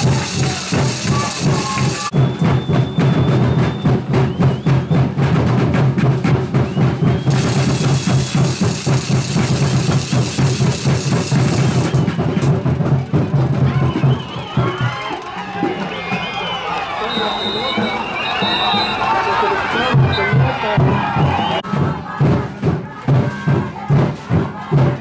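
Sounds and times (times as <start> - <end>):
drums beating fast rhythm: 0.0 - 25.0.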